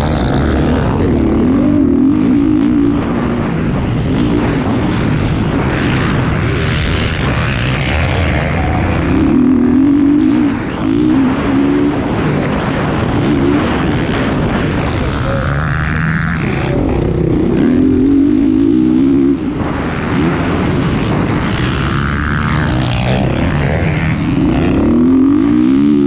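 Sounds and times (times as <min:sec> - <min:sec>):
motocross bike engine revving: 0:00.0 - 0:26.0
wind on microphone: 0:00.0 - 0:26.0.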